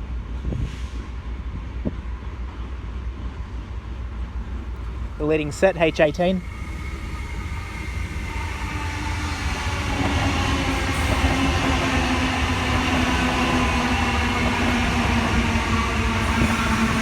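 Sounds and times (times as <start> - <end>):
electric train passing: 2.9 - 17.0.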